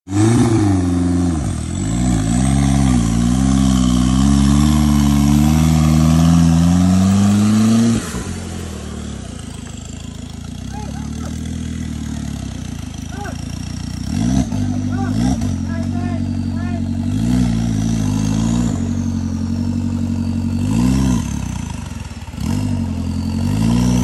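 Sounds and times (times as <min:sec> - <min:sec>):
car engine revving hard: 0:00.1 - 0:24.0.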